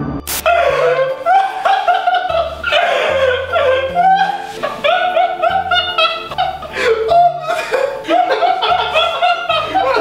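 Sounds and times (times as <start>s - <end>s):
background music melody and bass: 0.0s - 10.0s.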